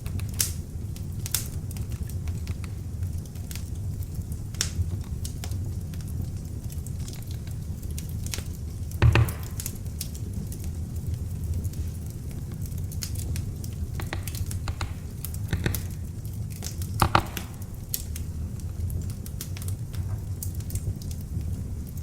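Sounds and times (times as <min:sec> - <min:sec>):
fire popping and snapping: 0:00.0 - 0:22.0
low rumble of flame: 0:00.0 - 0:22.0.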